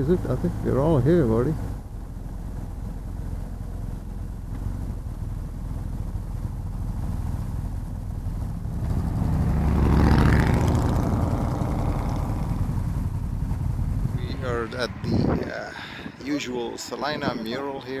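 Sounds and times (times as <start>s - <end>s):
loud motorcycle engine: 0.0s - 15.4s
motorcycle engines at low speed: 0.0s - 18.0s.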